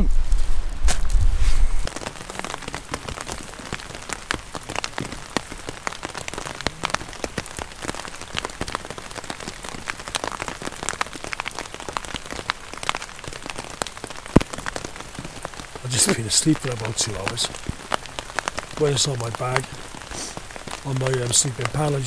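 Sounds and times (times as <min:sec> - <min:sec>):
heavy rain hiss: 0:00.0 - 0:22.0
raindrops tapping close by: 0:00.0 - 0:22.0.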